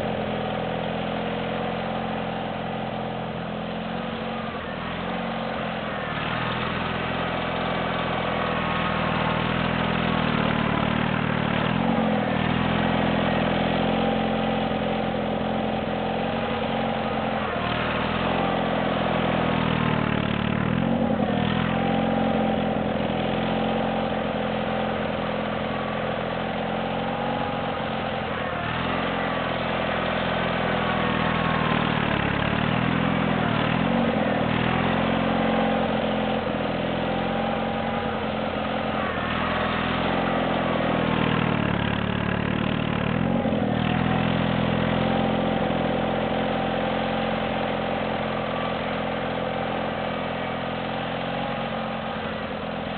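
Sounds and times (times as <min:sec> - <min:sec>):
garden tractor engine running: 0:00.0 - 0:52.9.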